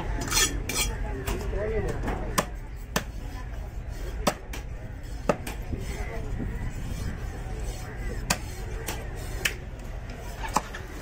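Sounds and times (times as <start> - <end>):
voices talking: 0.0 - 11.0.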